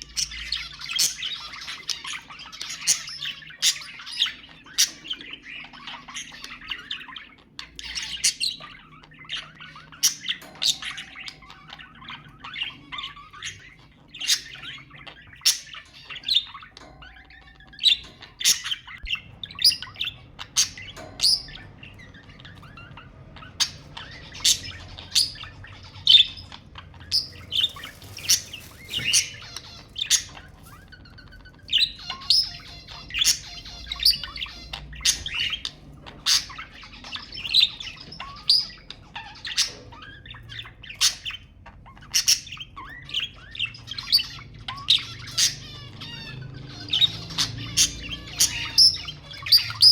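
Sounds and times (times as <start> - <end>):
budgerigars chirping and squawking: 0.0 - 49.9
budgerigars warbling: 0.0 - 49.9.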